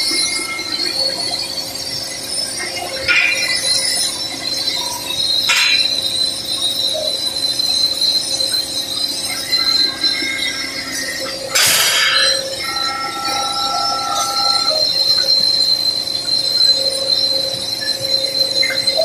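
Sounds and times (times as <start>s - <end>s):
high metallic ringing: 2.7s - 6.8s, 7.6s - 19.0s.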